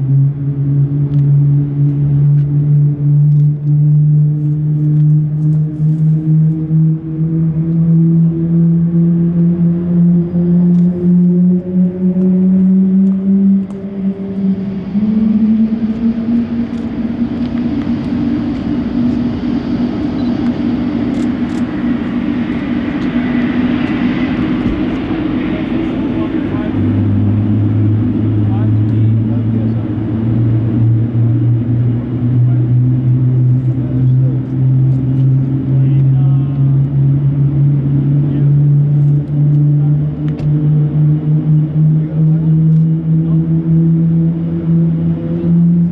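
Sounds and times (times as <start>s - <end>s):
jet engine spooling up: 0.5s - 45.9s.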